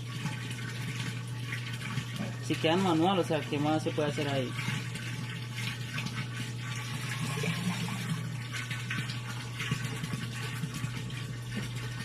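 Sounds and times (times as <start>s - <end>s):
pump humming: 0.0s - 12.0s
tap water running: 0.0s - 12.0s.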